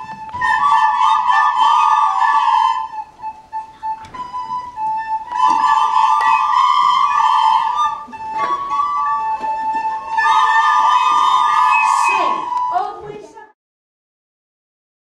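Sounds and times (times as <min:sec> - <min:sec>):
children playing recorders: 0:00.0 - 0:13.4.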